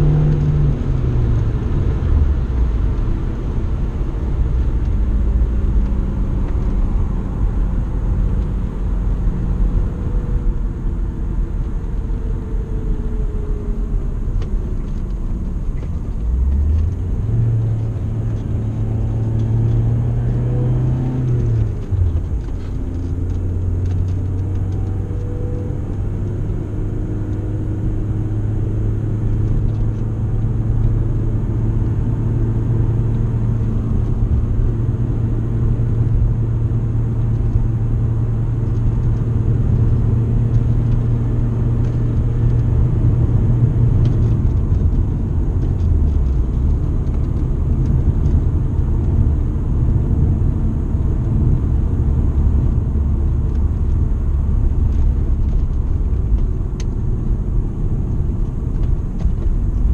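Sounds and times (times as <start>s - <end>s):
car engine drone from cabin: 0.0s - 59.9s.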